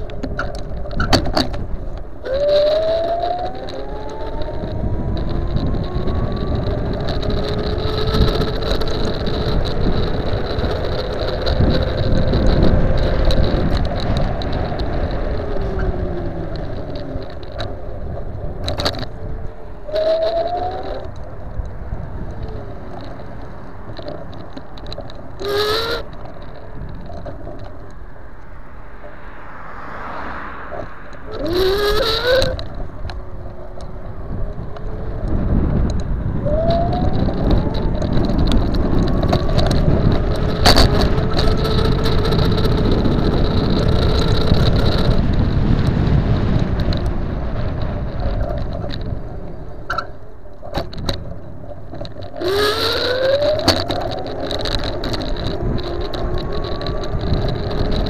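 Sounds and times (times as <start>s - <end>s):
wind buffeting: 0.0s - 58.0s.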